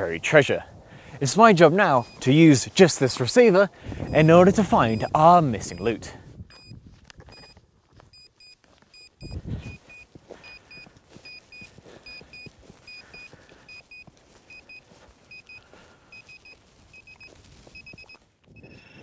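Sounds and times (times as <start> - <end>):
transceiver beeping: 1.8 - 2.4, 3.9 - 19.0.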